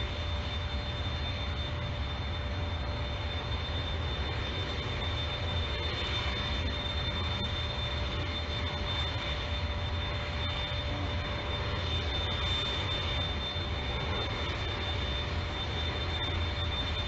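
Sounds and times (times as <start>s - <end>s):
helicopter turbine engines whining: 0.0s - 17.0s.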